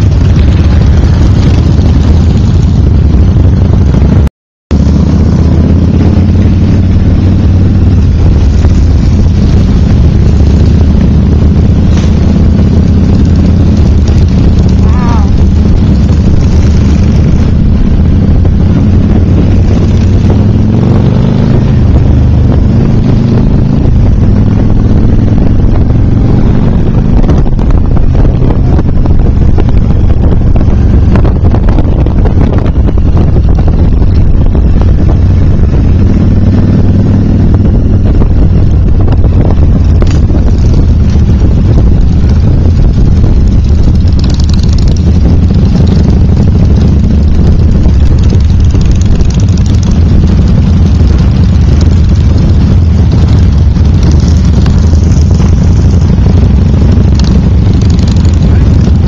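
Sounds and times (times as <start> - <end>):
motorcycle engines droning: 0.0 - 59.0
wind buffeting microphone: 4.8 - 59.0.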